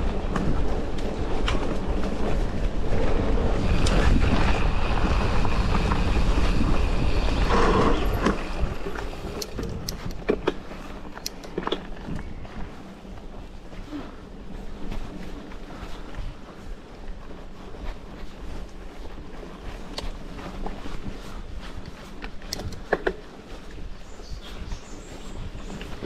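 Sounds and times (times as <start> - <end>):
bike clicking and rattling: 0.0 - 26.0
bike tyre noise: 0.0 - 26.0
wind buffeting microphone: 0.0 - 26.0.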